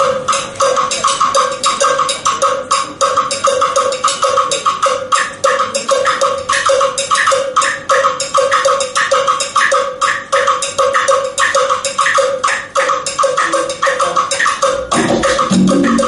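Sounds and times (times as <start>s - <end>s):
bongo bell: 0.0s - 16.0s
congas playing: 0.0s - 16.0s.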